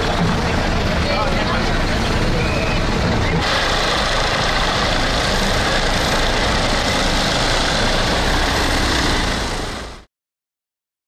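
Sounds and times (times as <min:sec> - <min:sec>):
helicopter hovering overhead: 0:00.0 - 0:10.1.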